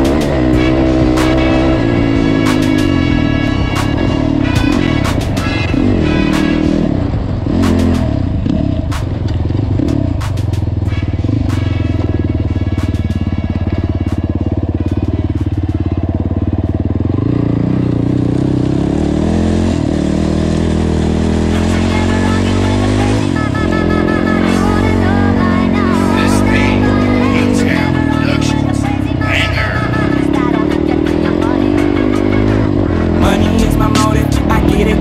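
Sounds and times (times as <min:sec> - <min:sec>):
atv engine running: 0:00.0 - 0:35.0
background music: 0:00.0 - 0:35.0.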